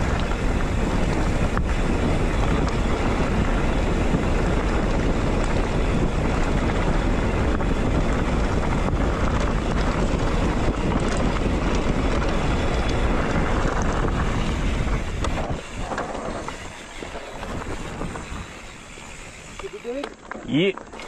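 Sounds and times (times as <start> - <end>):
wind rushing over microphone: 0.0 - 20.9
tyres rumbling on gravel: 0.0 - 21.0.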